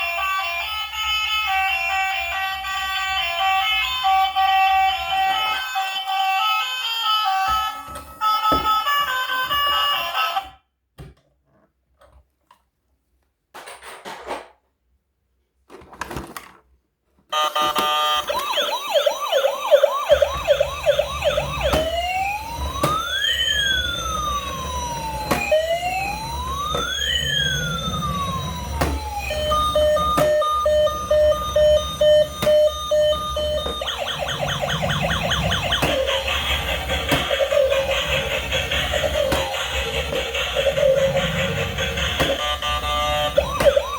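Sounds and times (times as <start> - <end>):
electronic police siren: 0.0 - 10.6, 17.4 - 43.9.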